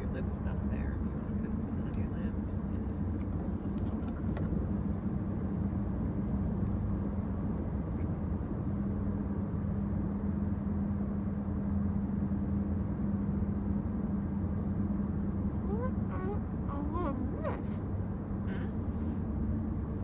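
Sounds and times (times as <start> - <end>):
car engine rumble: 0.0 - 20.0
road noise: 0.0 - 20.0
steady low hum: 0.0 - 20.0.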